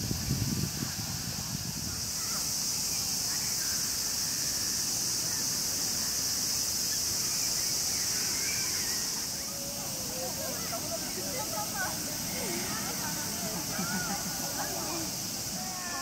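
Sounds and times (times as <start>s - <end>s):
cicadas droning: 0.0s - 16.0s
murmur of distant voices: 0.0s - 16.0s.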